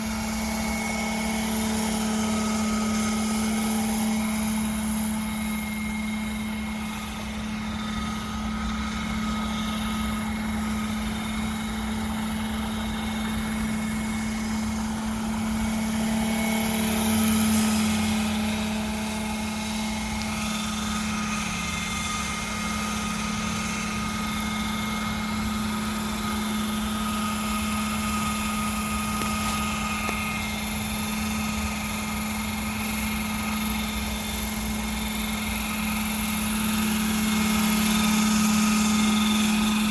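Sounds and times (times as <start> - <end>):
model helicopter drone: 0.0 - 39.9
thin high whine: 0.0 - 39.9.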